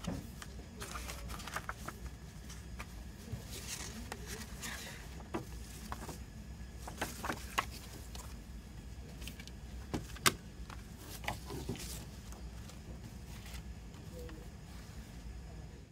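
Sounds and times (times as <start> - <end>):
paper and plastic handling: 0.0 - 8.4, 9.1 - 14.5
low steady hum: 0.0 - 15.9.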